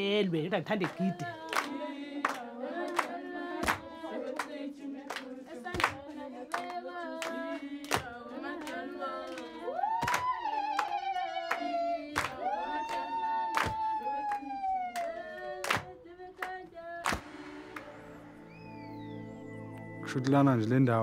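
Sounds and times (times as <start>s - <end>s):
rhythmic clapping: 0.0s - 18.7s
children singing together: 1.0s - 18.8s.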